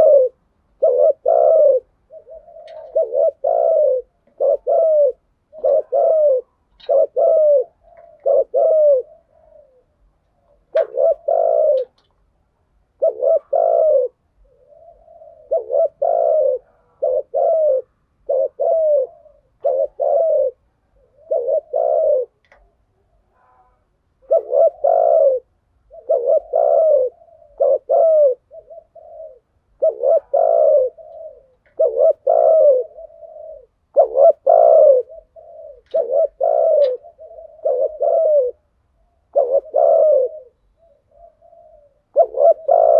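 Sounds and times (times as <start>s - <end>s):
doves cooing: 0.0s - 12.1s, 12.9s - 42.9s.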